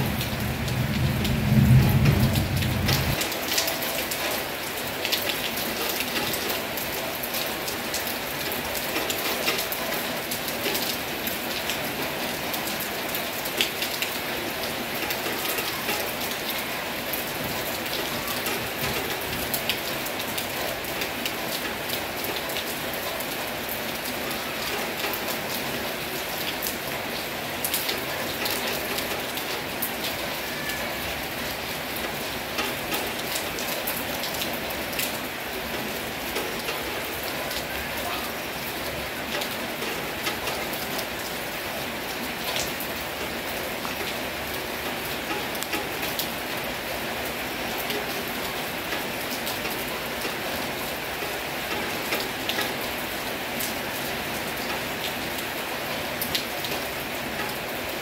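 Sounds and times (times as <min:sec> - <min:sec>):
raindrops ticking on hard surface: 0:00.0 - 0:58.0.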